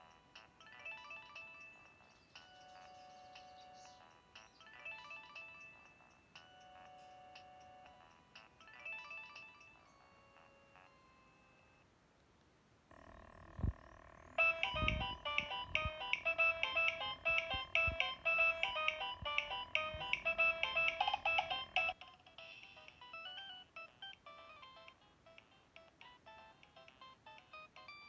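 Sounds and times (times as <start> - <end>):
polyphonic phone ringtone: 0.0 - 11.8, 14.4 - 28.0.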